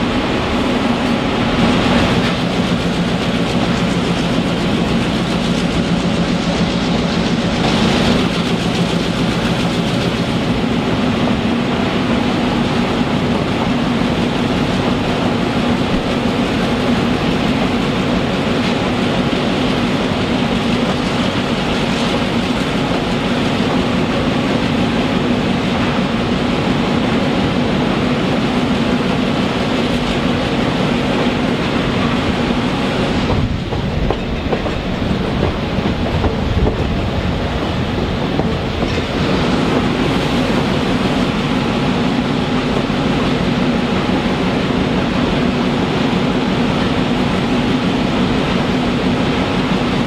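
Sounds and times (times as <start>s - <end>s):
diesel locomotive engine hum: 0.0s - 50.0s
rail and wheel noise: 0.0s - 50.0s
wheels clacking over rail joints: 0.0s - 50.0s.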